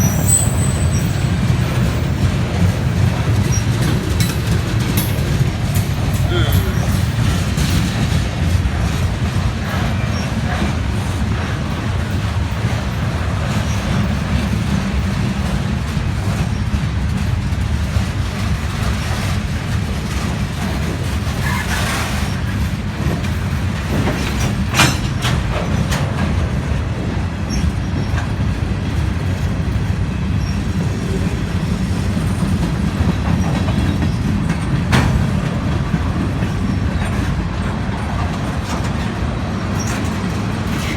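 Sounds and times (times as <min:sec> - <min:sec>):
train rumbling past: 0:00.0 - 0:40.9
wheels clattering over rails: 0:00.0 - 0:40.9.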